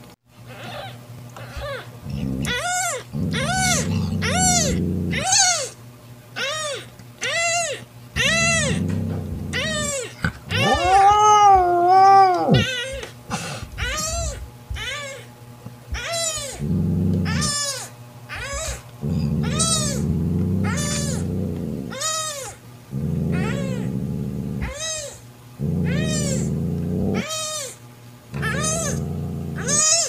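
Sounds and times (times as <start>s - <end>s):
kitten mewing: 1.6s - 5.7s, 6.4s - 13.0s, 15.9s - 27.8s, 28.4s - 30.0s.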